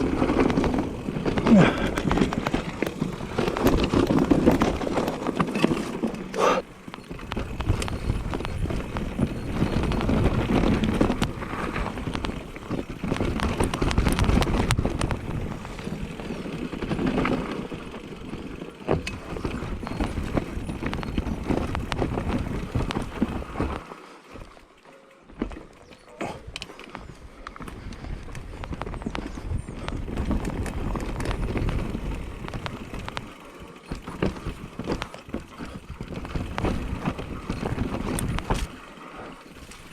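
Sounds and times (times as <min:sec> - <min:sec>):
bike rattling over bumps: 0:00.0 - 0:39.9
tyres rolling over dirt and rocks: 0:00.0 - 0:39.9.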